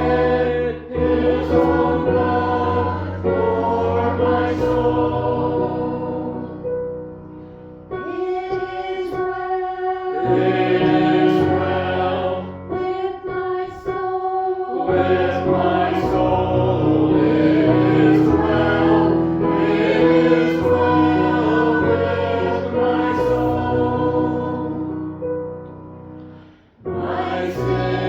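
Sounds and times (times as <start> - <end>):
church choir singing: 0.0 - 28.0.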